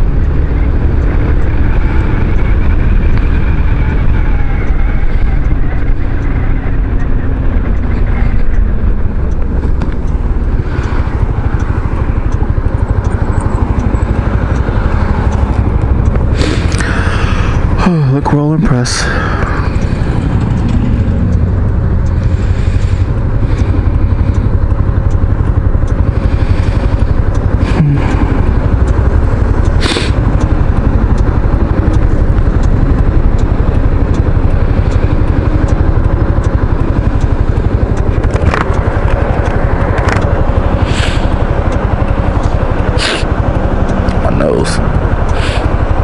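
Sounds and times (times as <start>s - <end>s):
road and wind noise: 0.0s - 46.0s
scooter engine running: 0.0s - 46.0s.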